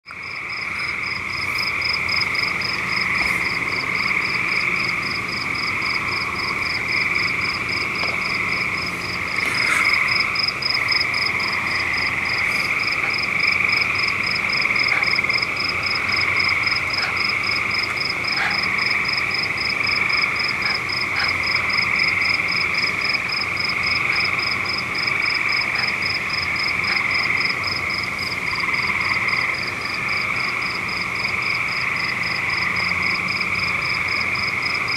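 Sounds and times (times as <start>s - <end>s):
frogs calling: 0.1s - 34.9s.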